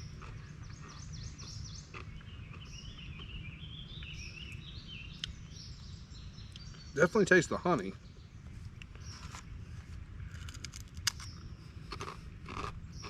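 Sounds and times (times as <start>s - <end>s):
birds singing: 0.0s - 13.0s
low outdoor rumble: 0.0s - 13.0s.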